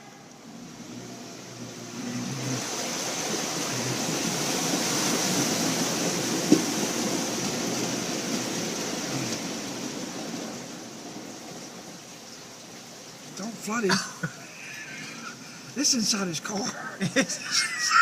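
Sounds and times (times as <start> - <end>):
creek water rushing and splashing: 0.0 - 18.0.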